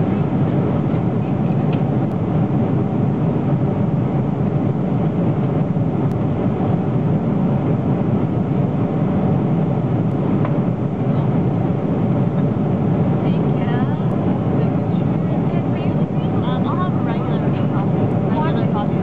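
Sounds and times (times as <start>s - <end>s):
airliner cabin engine noise: 0.0s - 19.0s.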